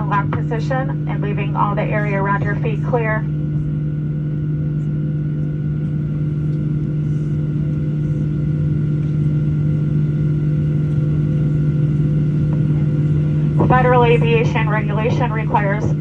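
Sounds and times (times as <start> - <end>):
aircraft cabin drone: 0.0 - 16.0.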